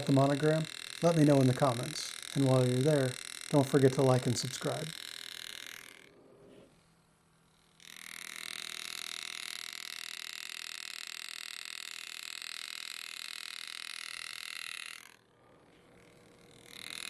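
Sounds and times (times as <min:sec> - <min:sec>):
engraving handpiece buzzing: 0:00.0 - 0:17.0.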